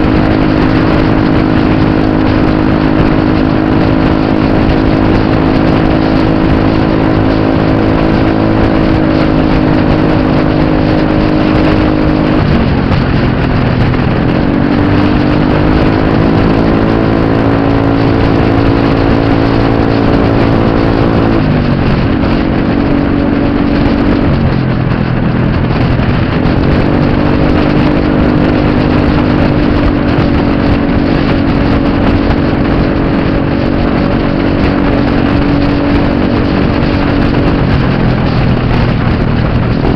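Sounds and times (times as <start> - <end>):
motor scooter engine running: 0.0 - 39.9
rushing noise: 0.0 - 39.9.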